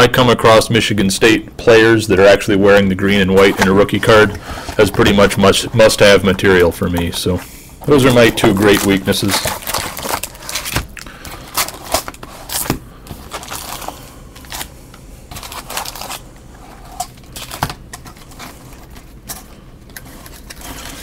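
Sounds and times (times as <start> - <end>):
foil packs crinkling: 3.0 - 21.0.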